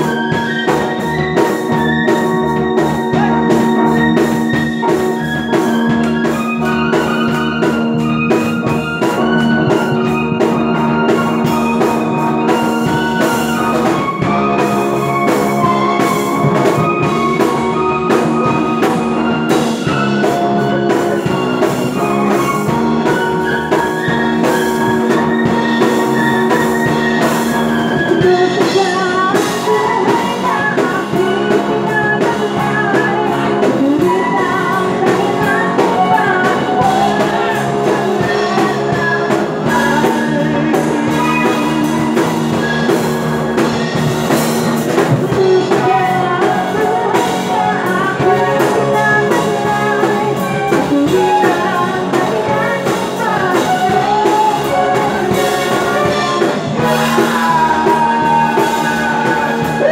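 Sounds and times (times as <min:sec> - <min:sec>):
woman singing: 0:00.0 - 0:43.7, 0:44.9 - 0:59.9
live rock band playing: 0:00.0 - 0:59.9.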